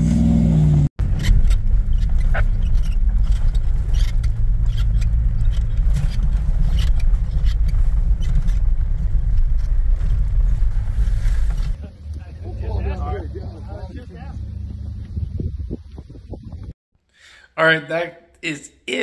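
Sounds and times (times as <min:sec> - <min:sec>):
engine revving: 0:00.0 - 0:16.7
vehicle engine droning: 0:00.0 - 0:16.7.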